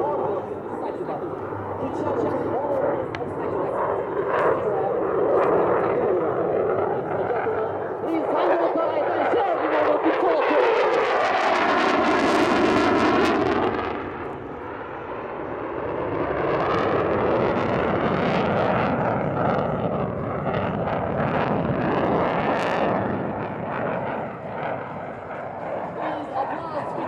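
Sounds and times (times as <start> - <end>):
jet engine roaring past: 0.0 - 27.0.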